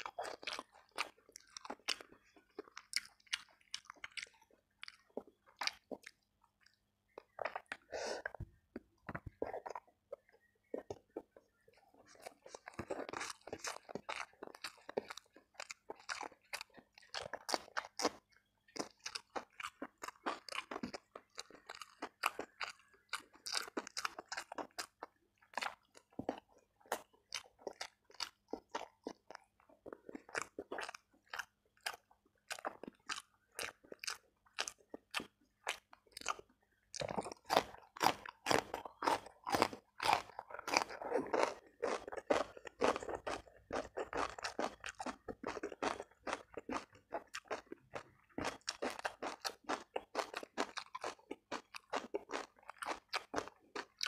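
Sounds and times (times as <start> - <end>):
close chewing with crunches: 0.0 - 54.0.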